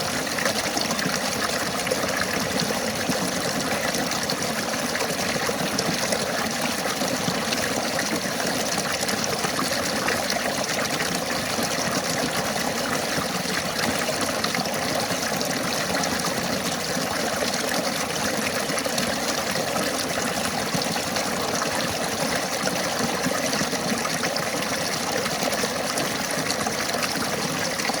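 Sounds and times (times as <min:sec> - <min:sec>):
river water over stones: 0:00.0 - 0:28.0.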